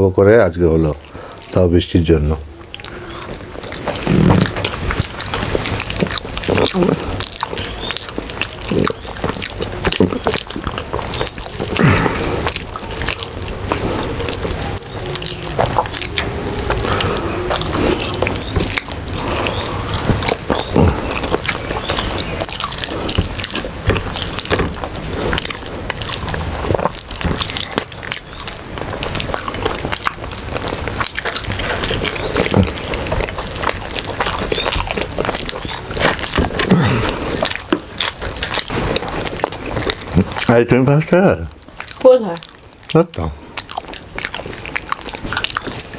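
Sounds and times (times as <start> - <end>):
wet chewing and lip smacks: 0.3 - 45.9.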